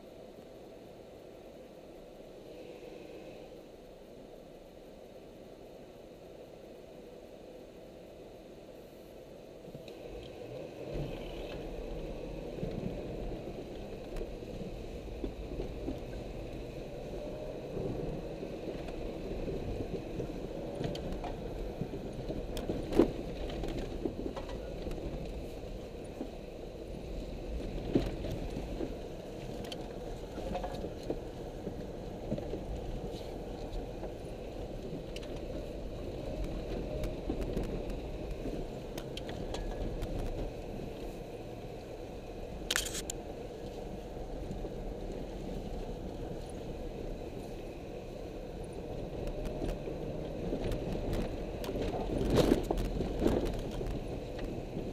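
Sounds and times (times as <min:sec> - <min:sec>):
car engine under load: 0:09.6 - 0:54.9
tyre and road noise: 0:09.6 - 0:54.9.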